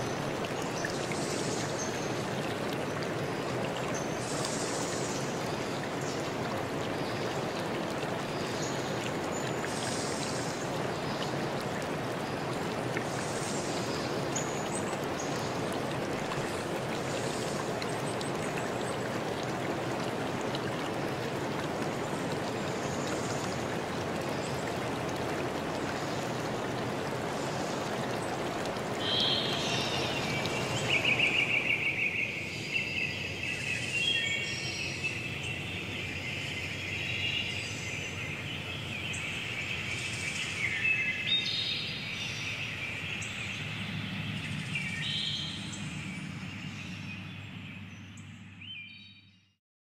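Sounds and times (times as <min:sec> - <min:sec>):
stream water rushing: 0:00.0 - 0:47.3.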